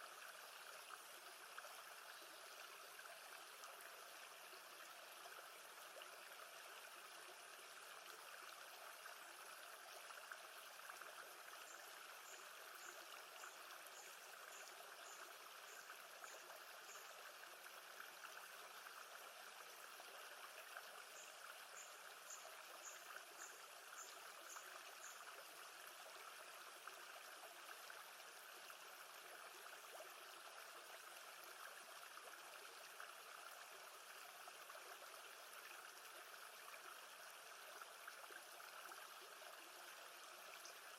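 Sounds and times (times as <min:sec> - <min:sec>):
gentle lake water: 0:00.0 - 0:40.9.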